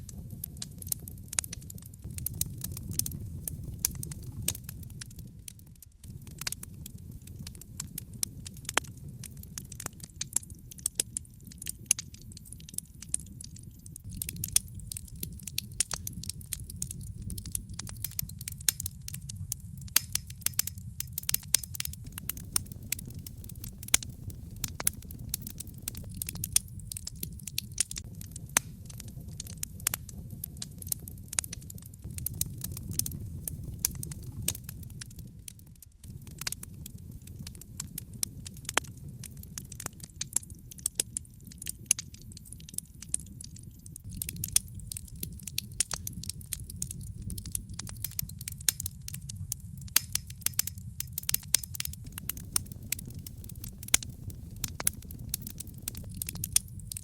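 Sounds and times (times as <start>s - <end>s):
burning logs crackling and popping: 0.0s - 57.0s
low rumble of fire: 0.0s - 57.0s.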